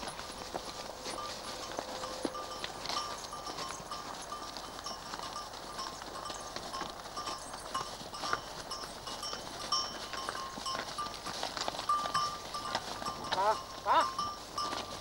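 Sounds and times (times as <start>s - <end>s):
cowbells clanking: 0.0s - 15.0s
hooves crunching on gravel: 0.0s - 15.0s.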